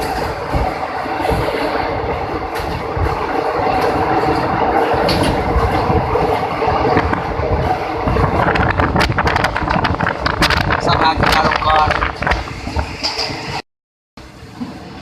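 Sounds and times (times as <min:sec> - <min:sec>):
train wheels rumbling and rattling: 0:00.0 - 0:13.6.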